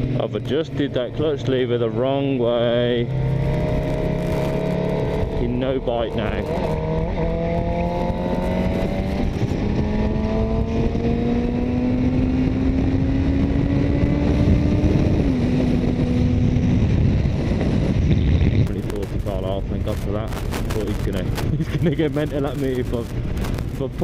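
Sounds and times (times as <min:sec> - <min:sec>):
motorcycle engine revving: 0:00.0 - 0:24.0
wind rush: 0:03.0 - 0:24.0.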